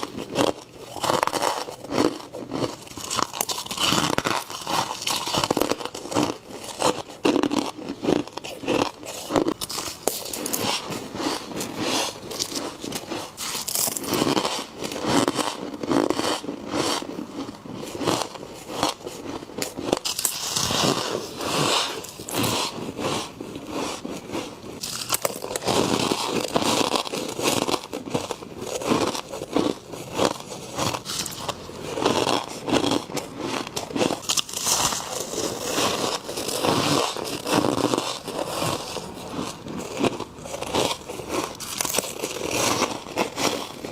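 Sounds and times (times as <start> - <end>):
crunchy bites into frost: 0.0 - 43.9.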